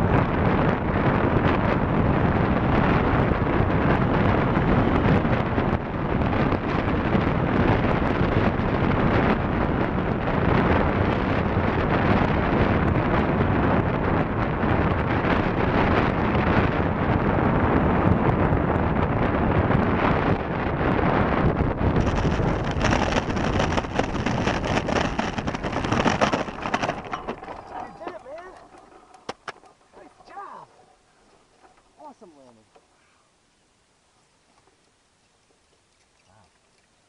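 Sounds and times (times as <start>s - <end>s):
wind rushing over microphone: 0.0s - 32.3s.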